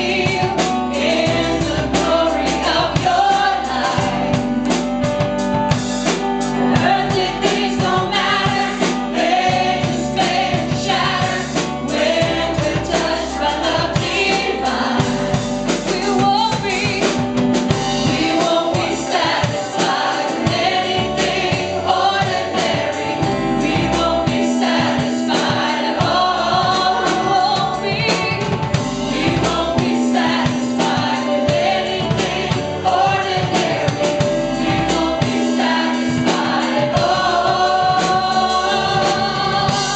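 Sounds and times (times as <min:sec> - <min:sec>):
choir singing gospel song: 0:00.0 - 0:39.9
instrumental accompaniment with beat: 0:00.0 - 0:39.9.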